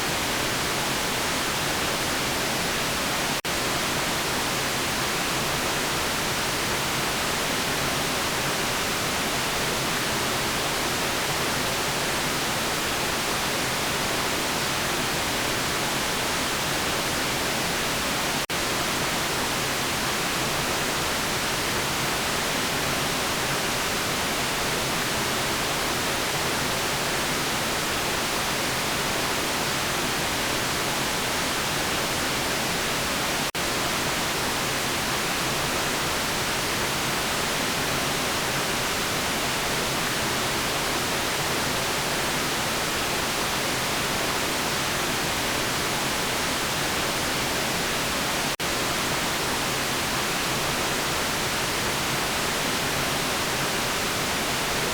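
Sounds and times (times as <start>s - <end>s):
white noise hiss: 0.0s - 54.9s.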